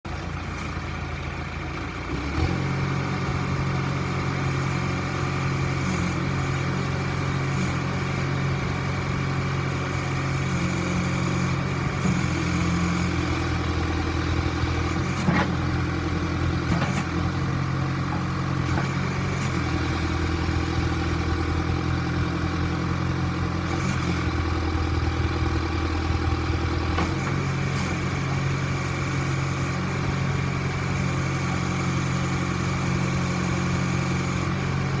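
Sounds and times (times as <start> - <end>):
backhoe diesel engine running: 0.1 - 35.0.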